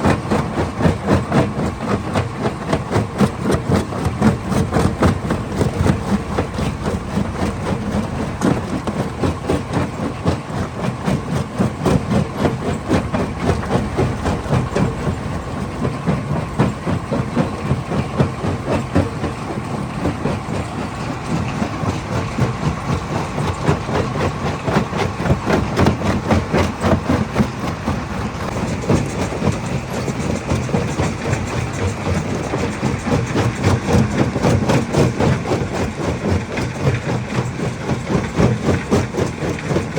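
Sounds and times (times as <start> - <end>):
low machine rumble: 0.0 - 39.9.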